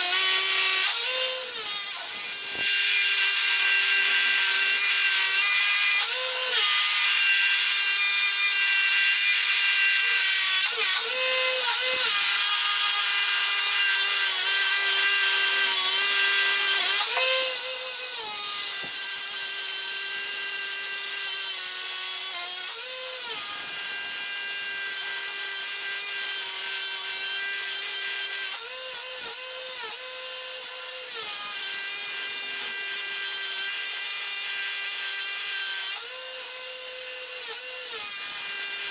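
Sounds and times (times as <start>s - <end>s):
power drill boring into concrete: 0.0s - 38.9s.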